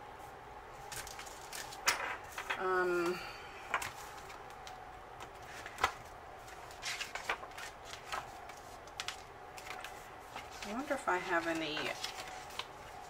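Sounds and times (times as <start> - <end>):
paper rustling: 0.8 - 2.4, 3.7 - 13.0.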